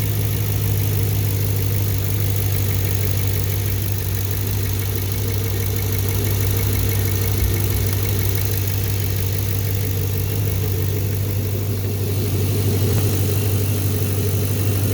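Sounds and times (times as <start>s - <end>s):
car engine idling: 0.0s - 14.9s
engine lifter ticking: 0.0s - 14.9s.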